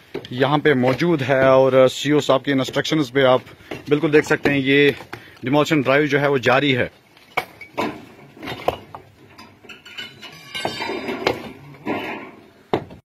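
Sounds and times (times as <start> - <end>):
bricks and mortar clattering: 2.3 - 13.0.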